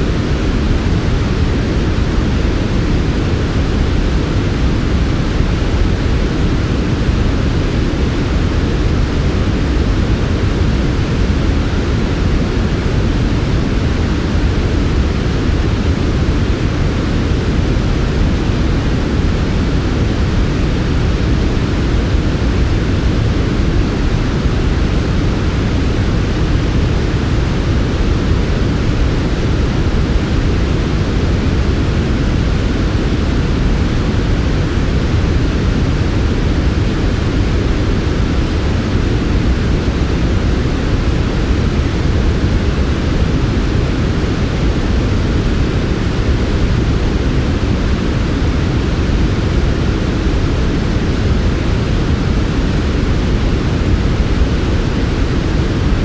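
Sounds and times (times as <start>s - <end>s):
low rumbling white noise: 0.0s - 56.0s.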